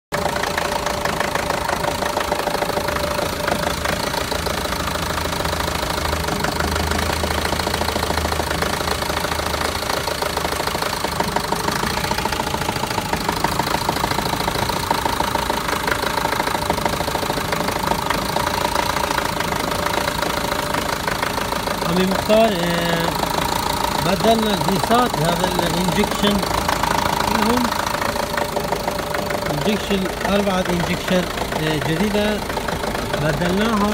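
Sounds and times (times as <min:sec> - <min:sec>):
van engine idling: 0:00.1 - 0:33.9.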